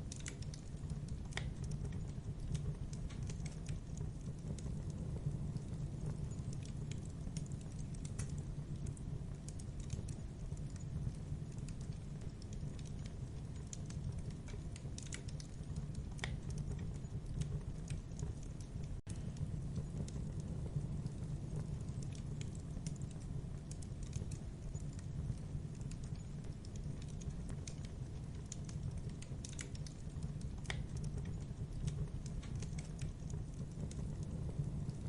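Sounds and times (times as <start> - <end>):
burning wood crackling and popping: 0.0 - 35.0
flames rushing: 0.0 - 35.0.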